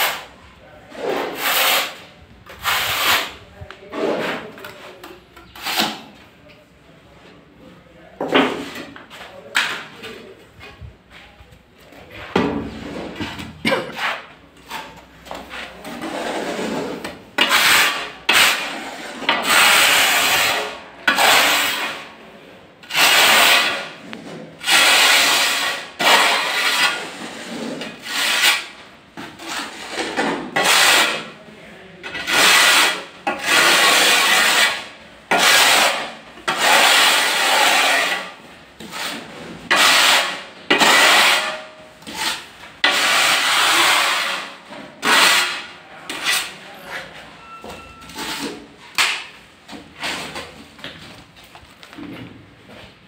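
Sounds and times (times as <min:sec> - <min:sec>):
trowel scraping tile adhesive: 0:00.0 - 0:06.2, 0:12.1 - 0:22.2, 0:22.8 - 0:31.4, 0:32.0 - 0:50.6.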